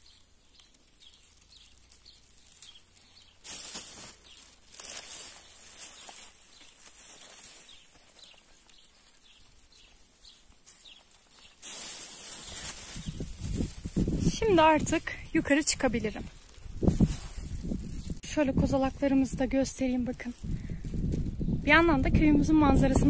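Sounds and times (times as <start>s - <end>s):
rustling bursts: 0.0s - 21.7s
small birds chirping: 0.0s - 23.0s.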